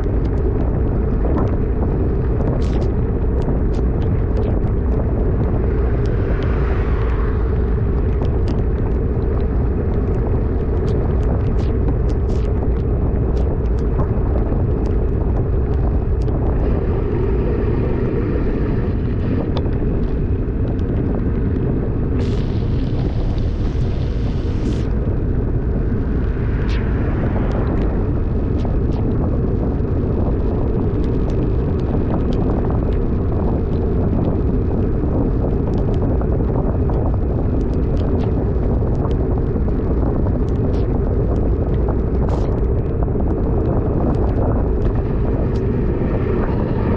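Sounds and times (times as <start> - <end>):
wind rush on microphone: 0.0 - 46.9.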